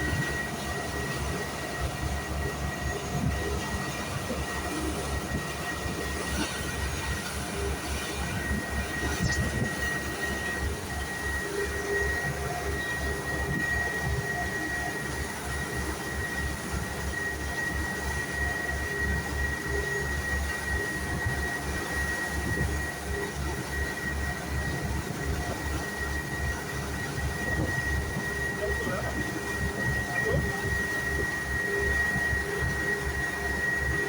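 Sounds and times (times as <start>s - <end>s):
boat engine rumbling: 0.0s - 34.0s
high steady whine: 0.0s - 34.0s.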